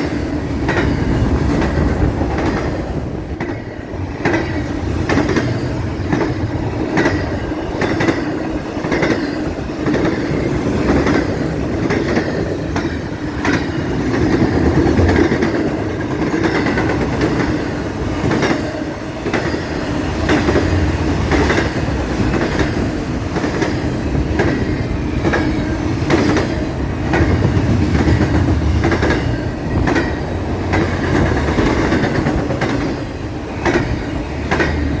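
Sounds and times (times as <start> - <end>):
freight train rumbling past: 0.0 - 35.0
wheels clacking on rail joints: 0.0 - 35.0.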